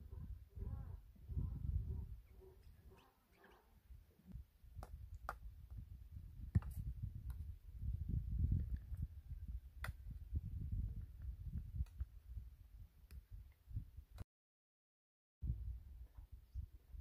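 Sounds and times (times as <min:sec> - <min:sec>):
wind rumble on microphone: 0:00.0 - 0:03.0, 0:03.8 - 0:14.2, 0:15.4 - 0:17.0.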